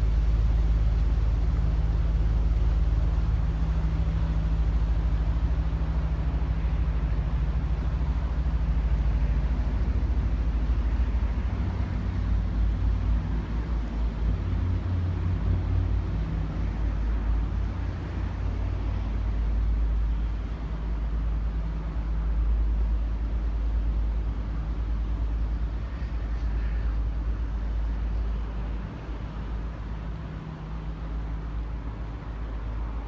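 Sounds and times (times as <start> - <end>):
boat diesel engine rumble: 0.0 - 33.0.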